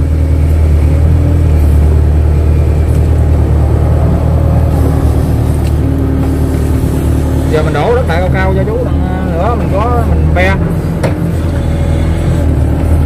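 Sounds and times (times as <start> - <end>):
excavator diesel engine humming: 0.0 - 13.0.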